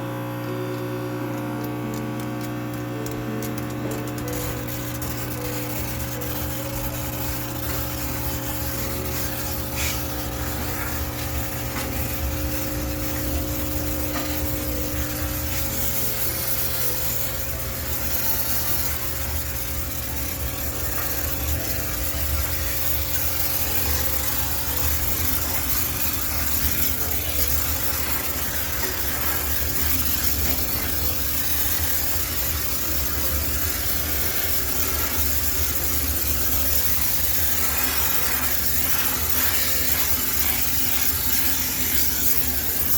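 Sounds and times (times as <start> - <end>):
low machine hum: 0.0 - 42.9
steam hissing: 2.7 - 42.9.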